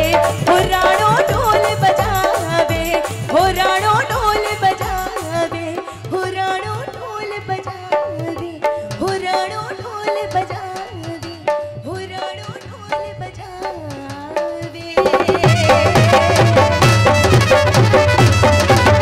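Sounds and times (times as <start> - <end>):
hand drum rhythm: 0.0 - 19.0.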